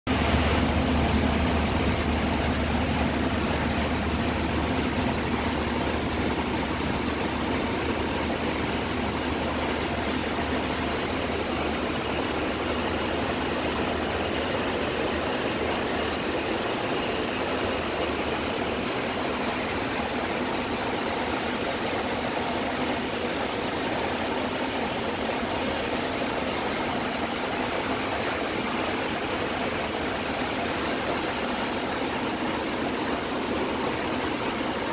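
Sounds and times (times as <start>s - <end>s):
aircraft cockpit rushing noise: 0.0s - 34.9s.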